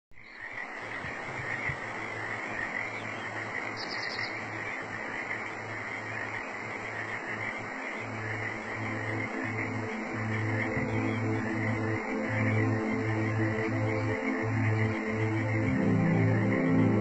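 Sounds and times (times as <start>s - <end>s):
frogs and insects calling: 0.2s - 17.0s.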